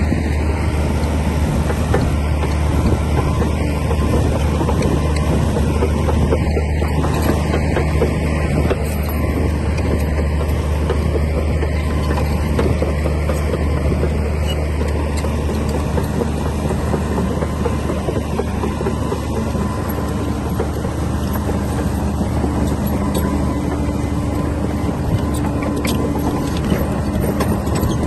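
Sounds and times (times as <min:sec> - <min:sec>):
bulldozer diesel engine running: 0:00.0 - 0:28.0
machine clicks and clanks: 0:01.6 - 0:28.0.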